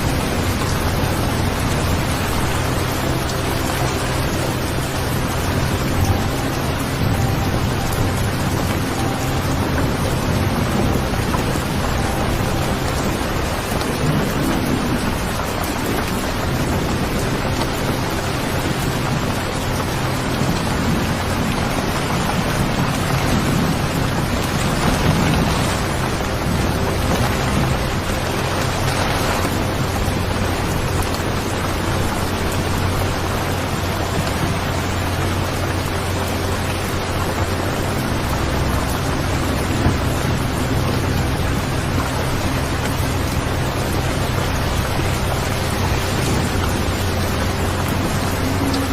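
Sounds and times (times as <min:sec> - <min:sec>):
heavy rain: 0:00.0 - 0:48.9
low rumbling thunder: 0:00.0 - 0:48.9.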